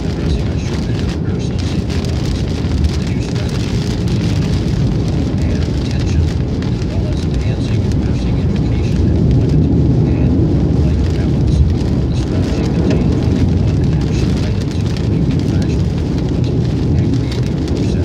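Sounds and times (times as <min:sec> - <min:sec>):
rain spattering on windshield: 0:00.0 - 0:18.0
tyre and engine rumble: 0:00.0 - 0:18.0.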